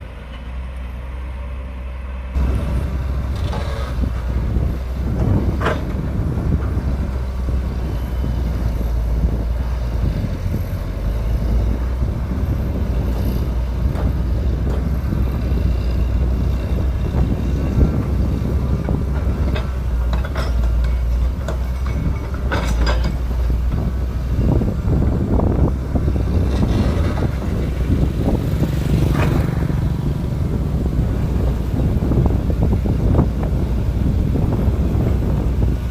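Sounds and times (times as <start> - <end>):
excavator diesel engine rumbling: 0.0 - 35.9.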